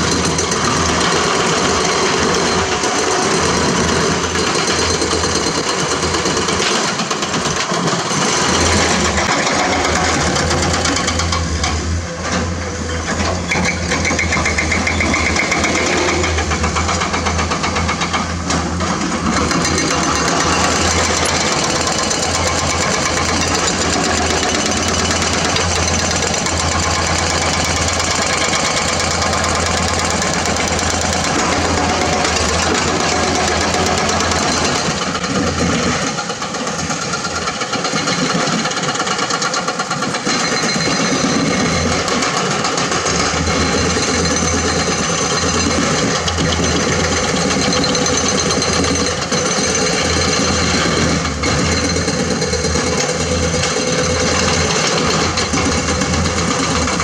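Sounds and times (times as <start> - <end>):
excavator diesel engines rumbling: 0.0 - 57.0.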